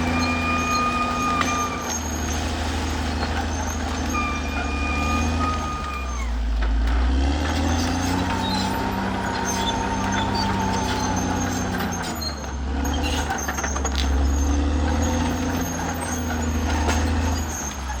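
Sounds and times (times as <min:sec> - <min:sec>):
bulldozer diesel engine drone: 0:00.0 - 0:18.0.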